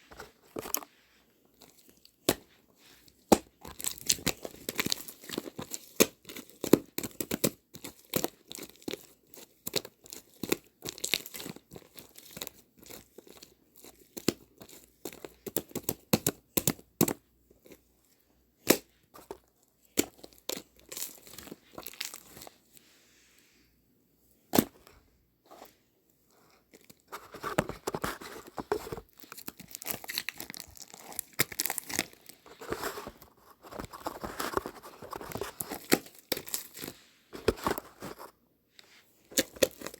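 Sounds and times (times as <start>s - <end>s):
crinkling and rustling handling: 0.0s - 39.9s.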